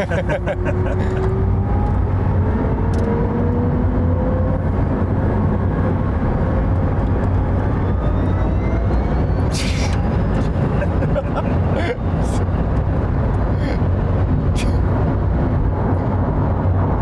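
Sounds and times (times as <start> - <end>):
road noise rumble: 0.0 - 17.0.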